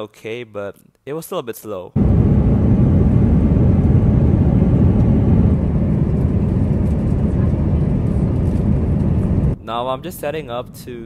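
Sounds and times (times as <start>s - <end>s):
airliner cabin engine rumble: 2.0s - 11.0s.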